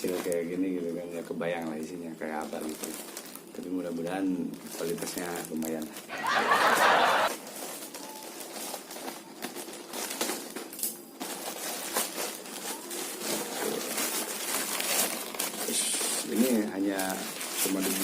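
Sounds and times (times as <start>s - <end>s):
plastic packaging crinkling: 0.0s - 6.6s, 7.3s - 18.0s.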